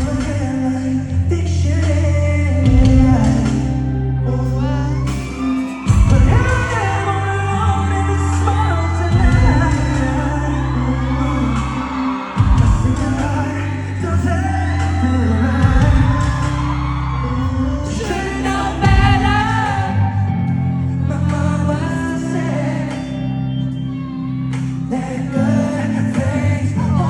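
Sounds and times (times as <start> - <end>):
live pop song with singing: 0.0 - 27.0
audience shouting and whooping: 2.7 - 27.0.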